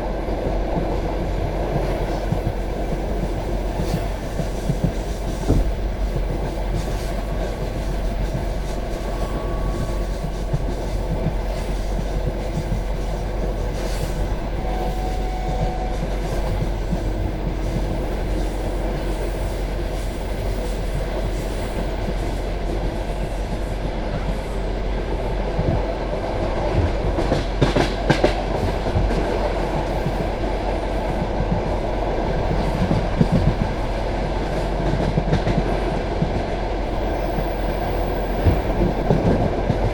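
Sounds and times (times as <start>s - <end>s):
clickety-clack of rail joints: 0.0s - 39.9s
train wheels rumbling on rails: 0.0s - 39.9s.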